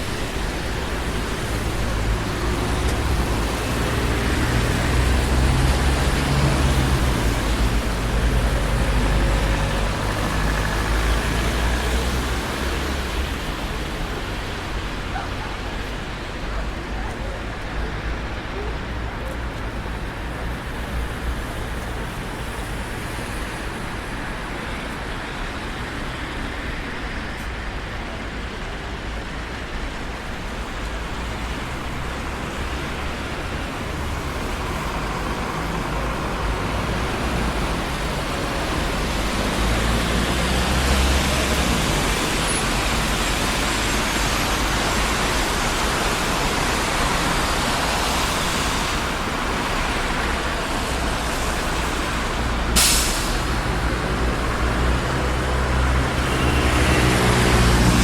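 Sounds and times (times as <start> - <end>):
passing cars and tyre noise: 0.0 - 58.0.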